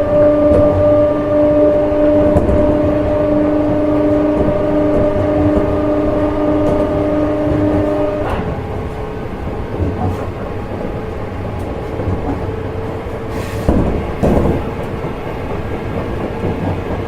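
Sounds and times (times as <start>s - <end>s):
electric train inverter whine: 0.0s - 17.0s
wheels rumbling on rail: 0.0s - 17.0s.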